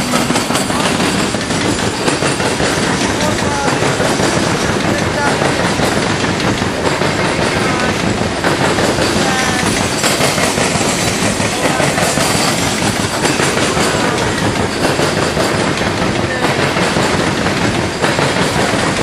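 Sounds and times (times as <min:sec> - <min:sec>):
clicks over rail joints: 0:00.0 - 0:19.0
steel wheels on rails: 0:00.0 - 0:19.0.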